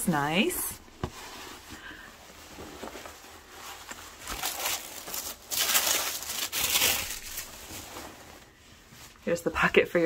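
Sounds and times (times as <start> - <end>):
fabric rustling and brushing: 0.0 - 10.0
tissue paper rustle: 0.0 - 10.0.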